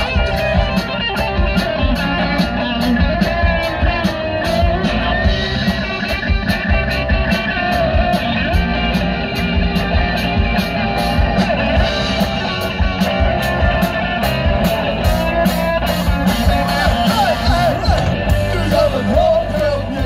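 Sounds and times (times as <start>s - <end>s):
bass guitar: 0.0s - 20.0s
drum kit beat: 0.0s - 20.0s
electric guitars: 0.0s - 20.0s.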